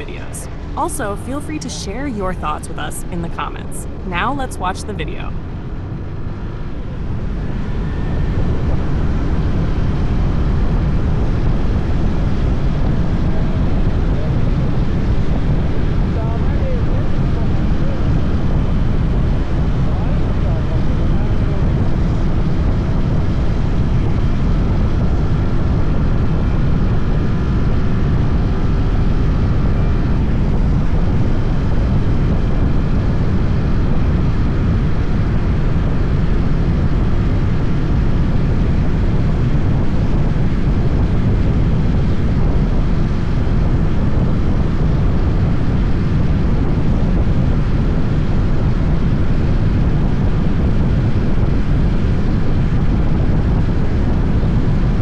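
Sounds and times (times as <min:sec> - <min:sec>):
wind on microphone: 0:04.7 - 0:55.0.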